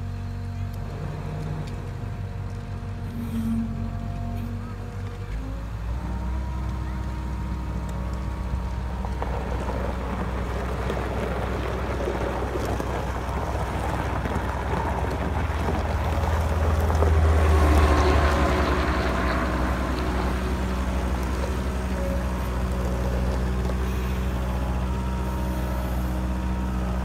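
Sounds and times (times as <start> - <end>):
skid steer diesel engine: 0.0 - 27.0.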